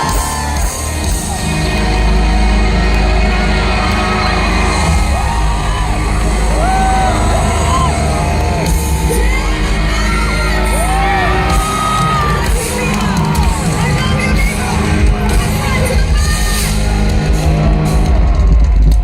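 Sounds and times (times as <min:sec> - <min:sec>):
fans whooping and screaming: 0:00.0 - 0:19.0
loud amplified pop music: 0:00.0 - 0:19.0.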